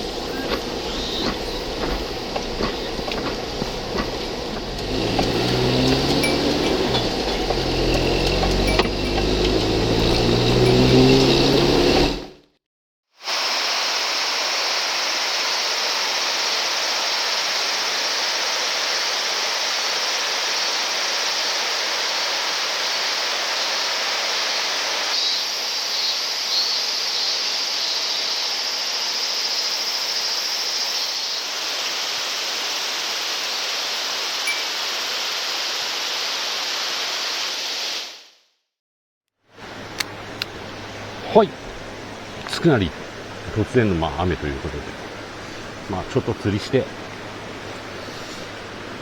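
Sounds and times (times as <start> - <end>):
mountain stream rushing: 0.0 - 12.4, 13.2 - 38.2, 39.5 - 49.0.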